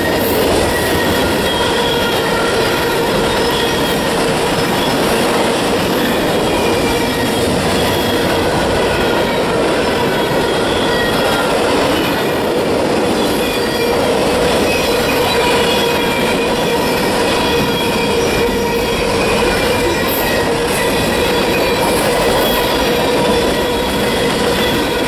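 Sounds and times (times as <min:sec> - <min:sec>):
wheels squealing: 0:00.0 - 0:12.4, 0:13.0 - 0:25.0
rumble of steel wheels on rail: 0:00.0 - 0:25.0.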